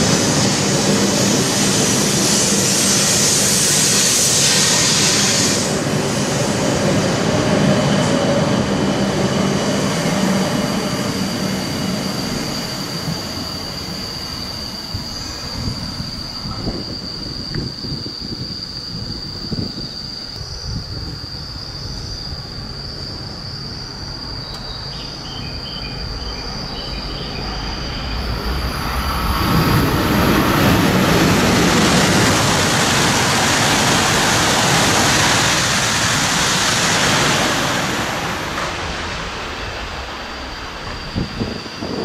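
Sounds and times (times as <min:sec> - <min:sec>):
high-speed train passing: 0:00.0 - 0:42.0.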